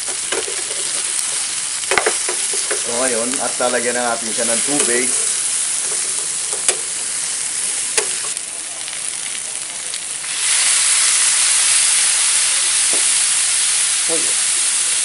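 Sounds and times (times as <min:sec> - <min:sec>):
liquid hissing in hot pan: 0:00.0 - 0:15.0
meat sizzling in a frying pan: 0:00.0 - 0:15.0.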